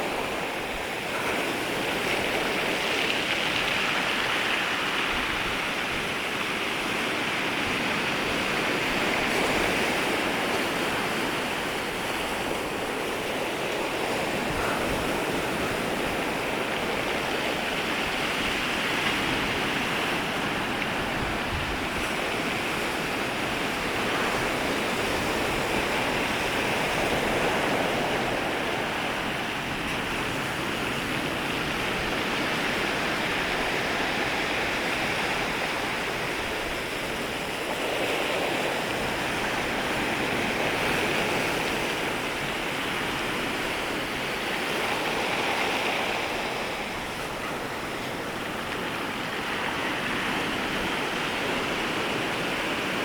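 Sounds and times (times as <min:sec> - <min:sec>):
sea waves washing on shore: 0:00.0 - 0:53.0.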